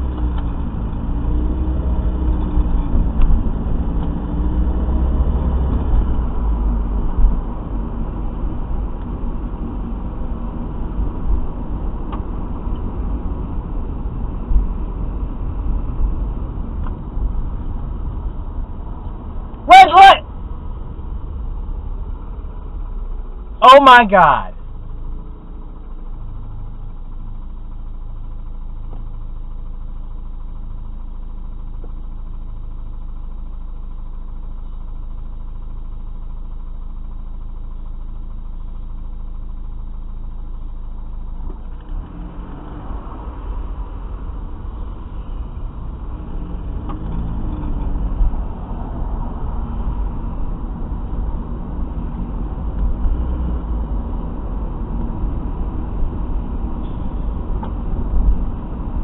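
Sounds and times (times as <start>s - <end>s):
traffic rumble of engines and tyres: 0.0s - 59.0s
vehicle engine idling: 0.0s - 59.0s.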